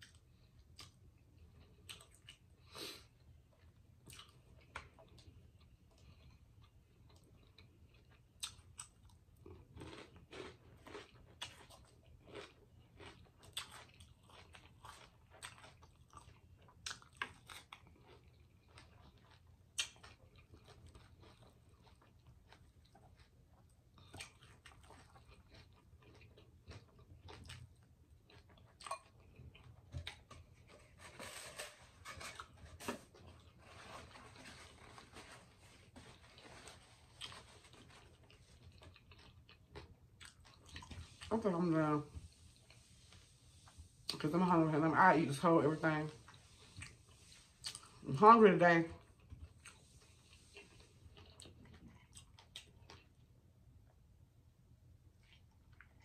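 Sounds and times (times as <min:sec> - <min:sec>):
person chewing: 0:00.0 - 0:31.4, 0:32.3 - 0:41.3, 0:46.1 - 0:48.0, 0:49.0 - 0:54.0, 0:55.1 - 0:56.0.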